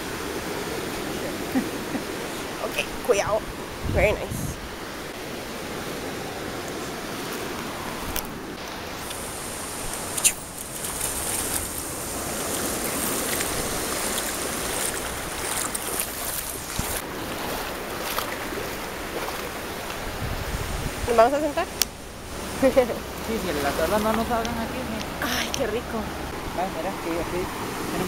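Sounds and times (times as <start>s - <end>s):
feet wading through water: 0.0s - 3.8s, 4.7s - 28.0s
seawater sloshing over rocks: 0.0s - 28.0s.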